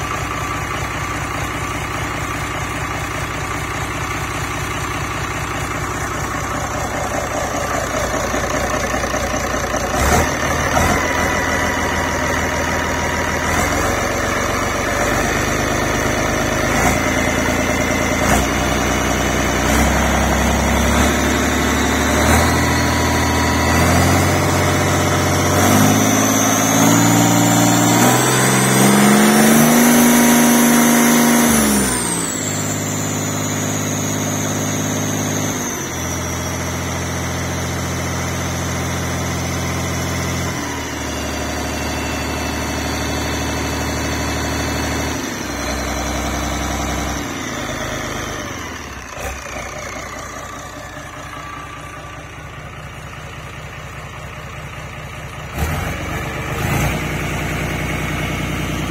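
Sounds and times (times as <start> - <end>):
marine diesel engine revving: 0.0 - 58.9.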